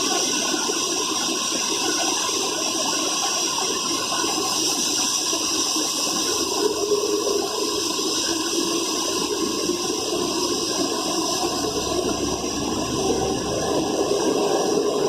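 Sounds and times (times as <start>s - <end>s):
blower fan hissing: 0.0s - 15.0s.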